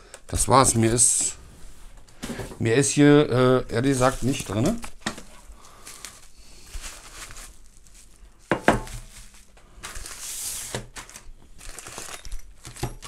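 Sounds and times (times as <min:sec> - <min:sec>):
plastic packaging crinkling: 0:02.2 - 0:13.0.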